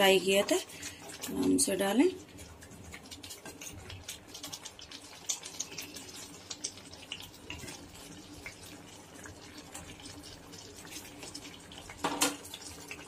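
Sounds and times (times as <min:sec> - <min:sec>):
gravy crackling and popping: 0:00.0 - 0:13.0.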